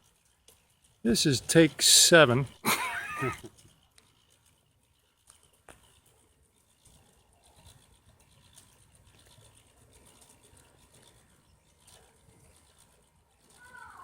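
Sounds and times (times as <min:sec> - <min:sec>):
faint ticks: 0:02.8 - 0:14.0.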